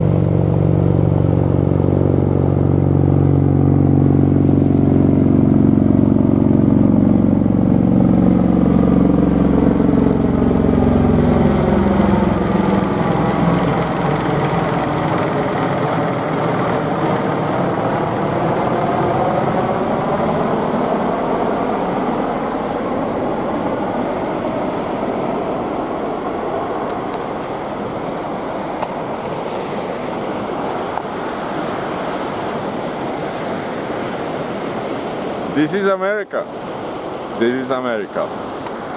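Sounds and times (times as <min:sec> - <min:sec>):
low-flying aircraft droning: 0:00.0 - 0:38.9.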